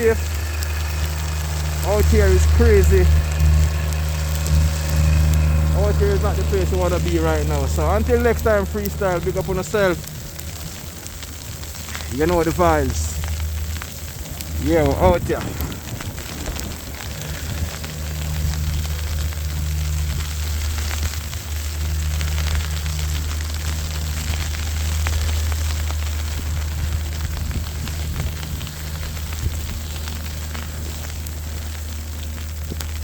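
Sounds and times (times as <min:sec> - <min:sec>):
storm wind buffeting microphone: 0:00.0 - 0:33.0.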